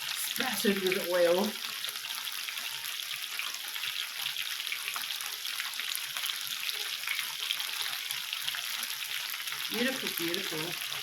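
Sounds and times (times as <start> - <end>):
meat sizzling on a grill: 0.0 - 11.0.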